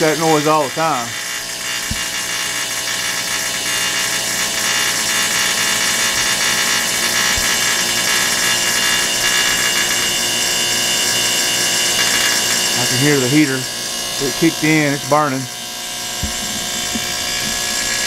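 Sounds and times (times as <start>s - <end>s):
electric igniter buzzing: 0.0s - 18.0s
heater blower fan running: 0.0s - 18.0s.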